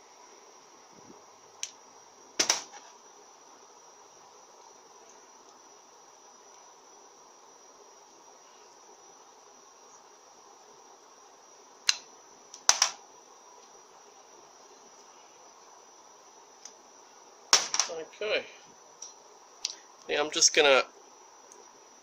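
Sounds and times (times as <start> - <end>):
faint high-pitched whine: 0.0 - 22.0.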